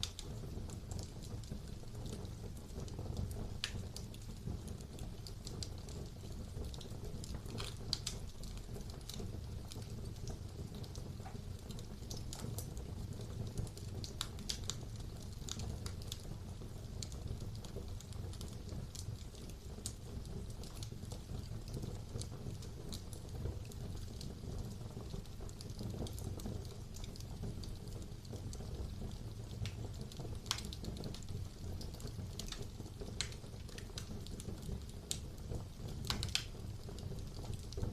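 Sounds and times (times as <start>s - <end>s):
fire crackling and popping: 0.0s - 37.9s.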